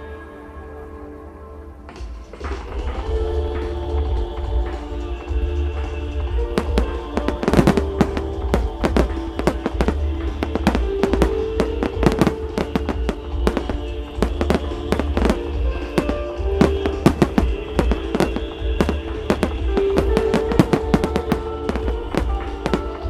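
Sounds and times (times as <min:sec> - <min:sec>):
loud music over loudspeakers: 0:00.0 - 0:23.0
fireworks bursts and cracks: 0:02.0 - 0:23.0.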